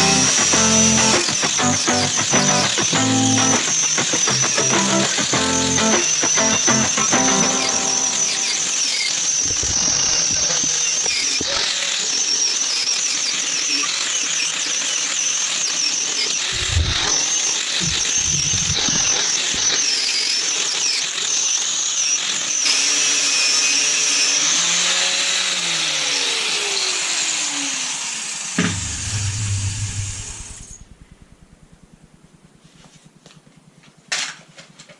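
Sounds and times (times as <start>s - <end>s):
power tool whining on metal: 0.0s - 31.2s
power tool spinning down: 0.0s - 32.0s.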